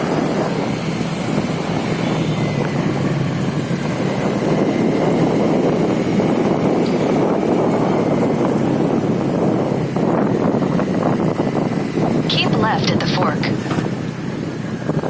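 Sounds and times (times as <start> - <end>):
motorcycle engine running: 0.0 - 12.3, 13.5 - 15.0
wind and road noise: 0.0 - 15.0.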